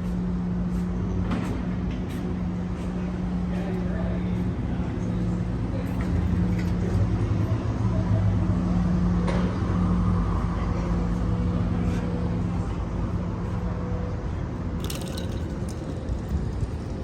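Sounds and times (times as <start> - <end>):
constant low hum: 0.0 - 17.0
vehicle engine rumbling: 0.0 - 17.0.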